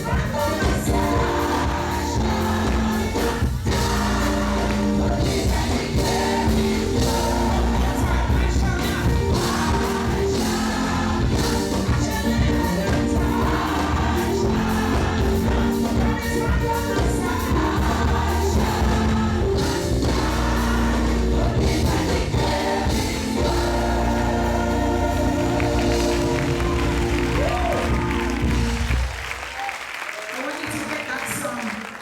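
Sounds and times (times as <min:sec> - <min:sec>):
choir singing: 0:00.0 - 0:29.2
band playing with strong bass: 0:00.0 - 0:29.3.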